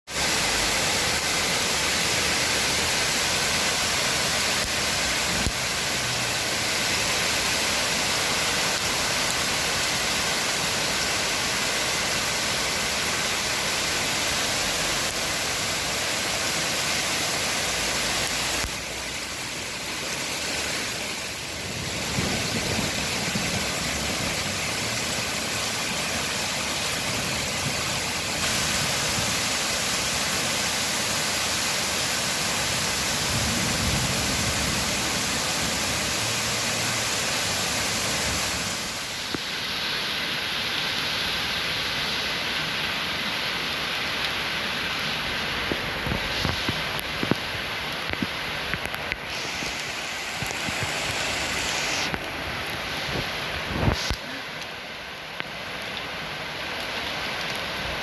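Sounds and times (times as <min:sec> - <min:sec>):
heavy rain and hail: 0:00.1 - 0:58.0.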